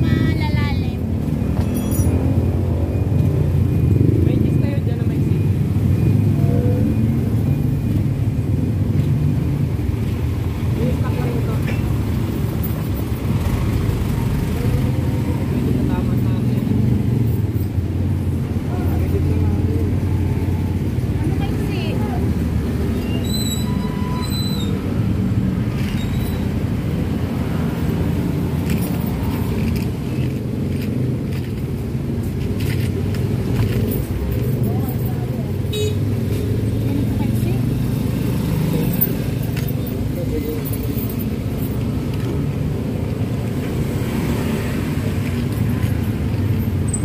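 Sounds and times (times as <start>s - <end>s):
vehicle engines rumbling: 0.0s - 47.0s.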